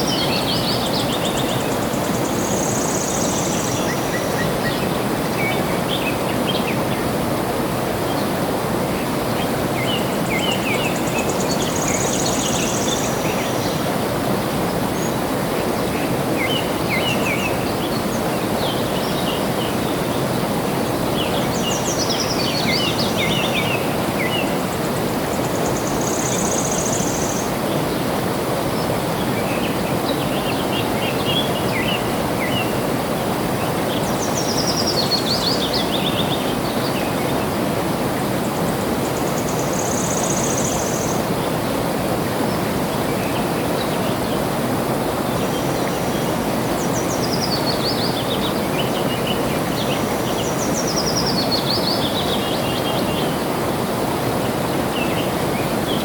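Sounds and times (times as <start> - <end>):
songbird singing: 0.0 - 7.2, 8.0 - 28.0, 28.7 - 44.6, 45.2 - 56.0
flowing water rushing: 0.0 - 56.0.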